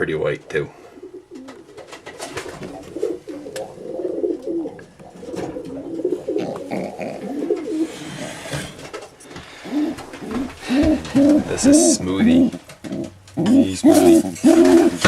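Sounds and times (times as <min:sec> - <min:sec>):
pigeons cooing: 0:00.7 - 0:15.0.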